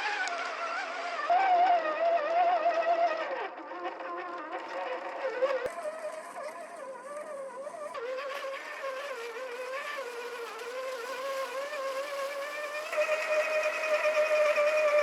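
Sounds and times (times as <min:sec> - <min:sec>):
electric motor buzzing whine: 0:00.0 - 0:15.0.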